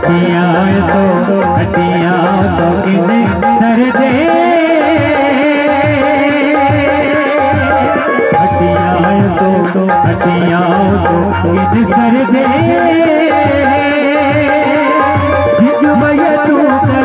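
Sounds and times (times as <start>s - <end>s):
electronic keyboard: 0.0s - 17.0s
hand drum beat: 0.0s - 17.0s
harmonium: 0.0s - 17.0s
man singing: 0.0s - 17.0s.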